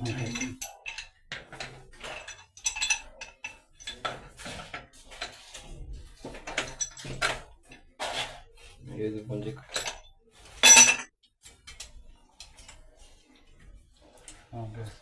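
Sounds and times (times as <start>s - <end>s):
metal pipe clinking and scraping: 0.0s - 15.0s.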